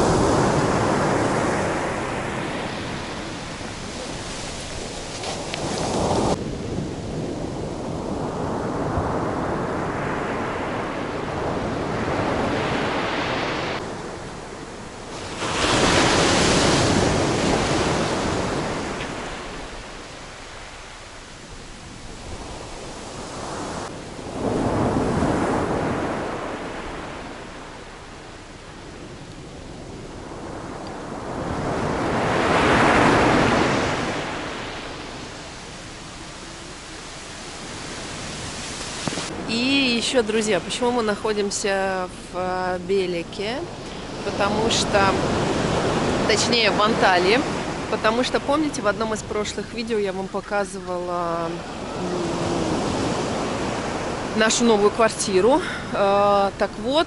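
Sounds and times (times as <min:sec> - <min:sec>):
surf breaking on beach: 0:00.0 - 0:28.1, 0:30.2 - 0:41.5, 0:43.6 - 0:50.0.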